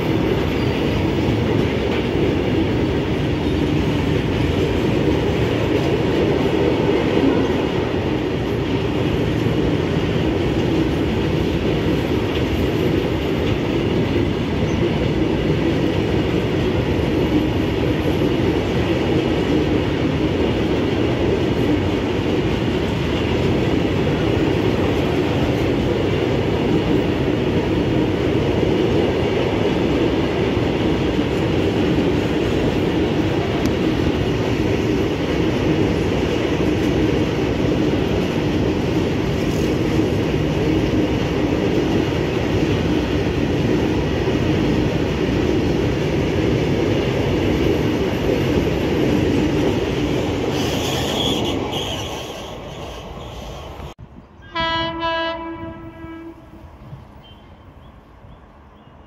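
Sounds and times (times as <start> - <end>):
train wheels on track: 0.0 - 59.0.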